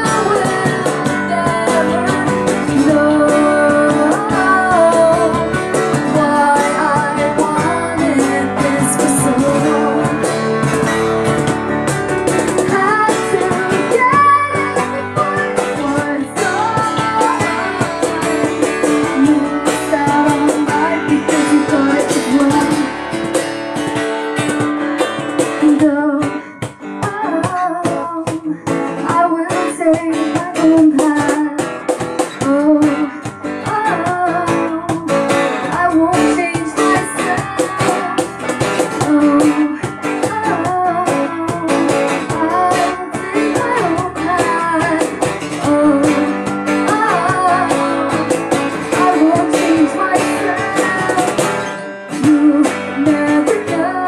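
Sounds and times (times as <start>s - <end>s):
woman singing into microphone: 0.0s - 23.4s, 25.4s - 54.0s
cajon beat: 0.0s - 54.0s.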